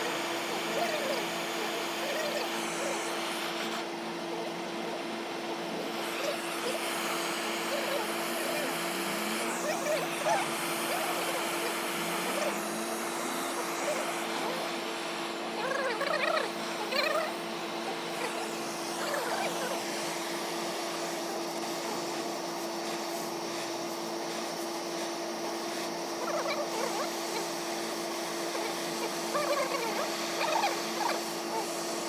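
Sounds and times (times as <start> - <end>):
machine electric hum: 0.0 - 32.0.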